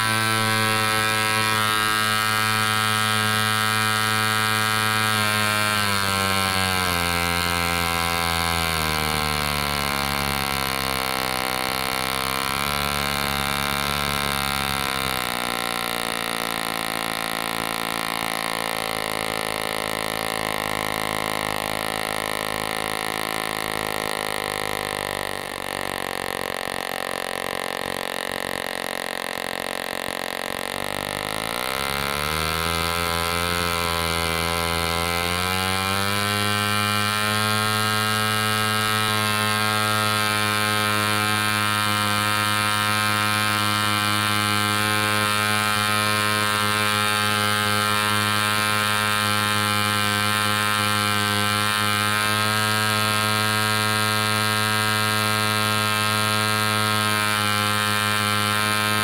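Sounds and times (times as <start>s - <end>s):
model engine running: 0.0s - 59.0s.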